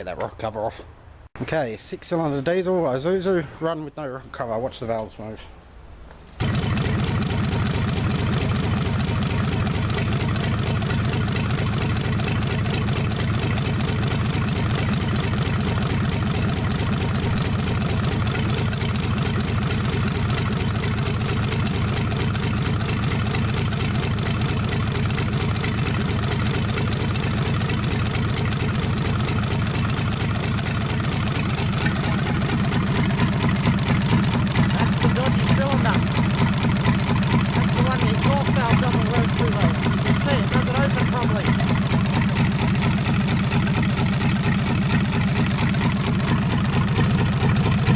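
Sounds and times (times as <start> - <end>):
diesel engine running: 6.4 - 47.9.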